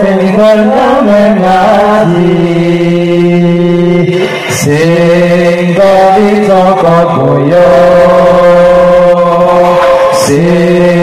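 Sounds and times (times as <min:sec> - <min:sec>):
men chanting devotional song: 0:00.0 - 0:11.0.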